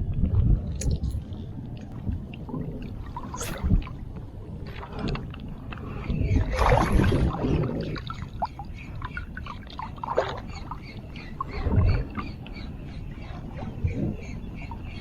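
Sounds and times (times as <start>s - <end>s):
sea water splashing: 1.8s - 14.6s.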